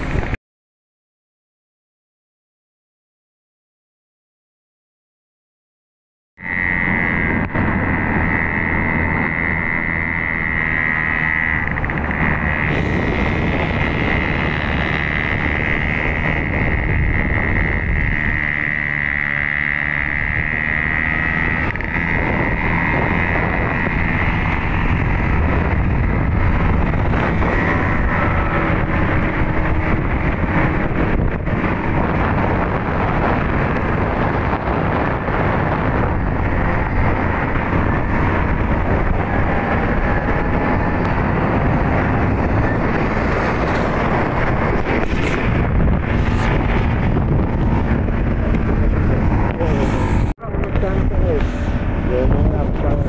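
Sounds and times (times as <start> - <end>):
wind rushing over microphone: 0.0 - 0.4, 6.4 - 53.0
motorcycle engine running: 6.4 - 53.0
steady high whine: 6.4 - 53.0.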